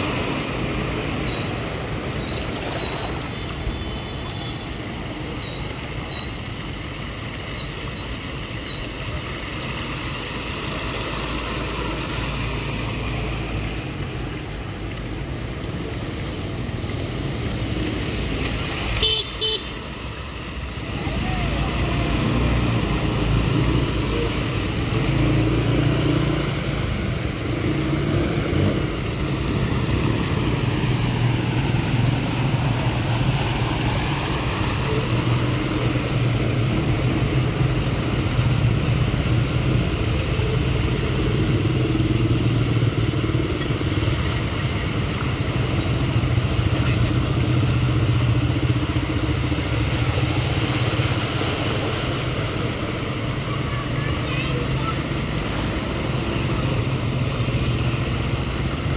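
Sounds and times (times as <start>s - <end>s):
tyres splashing through water: 0.0s - 58.9s.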